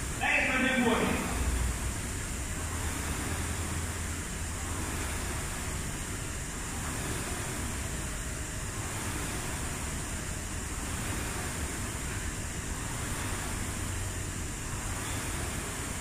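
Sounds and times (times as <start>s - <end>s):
rowing machine fan whirring: 0.0s - 16.0s.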